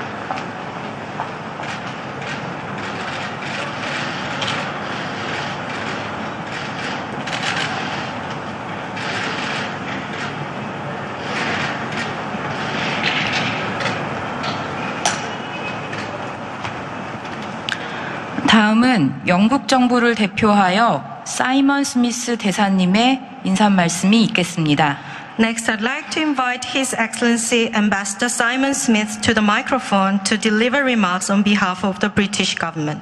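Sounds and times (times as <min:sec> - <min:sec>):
airport terminal background noise: 0:00.0 - 0:33.0.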